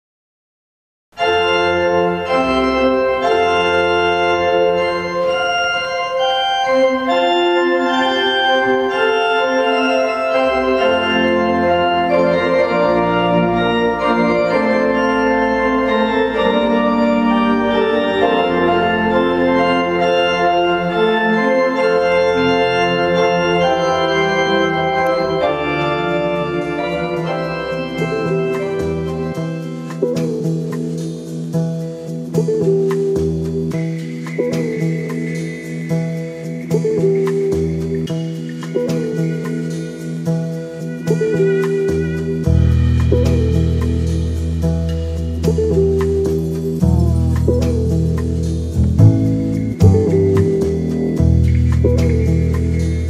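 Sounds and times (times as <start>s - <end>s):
organ chords: 1.2s - 53.0s.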